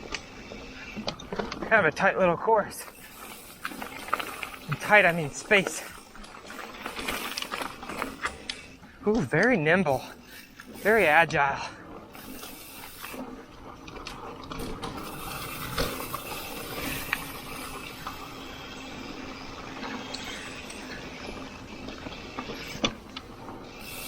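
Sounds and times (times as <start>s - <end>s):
bike tyre and drivetrain noise: 0.0s - 24.0s.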